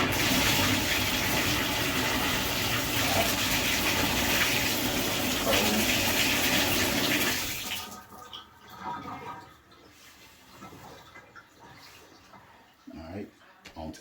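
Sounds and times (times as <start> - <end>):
toilet flushing: 0.0 - 12.3.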